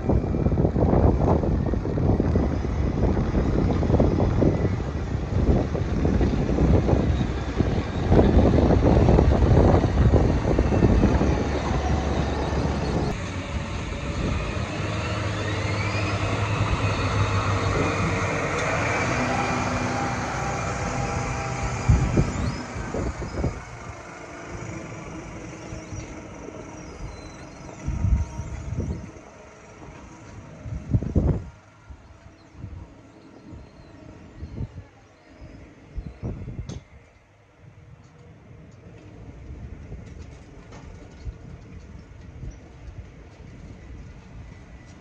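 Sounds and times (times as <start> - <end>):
tractor diesel engine running: 0.0 - 36.6.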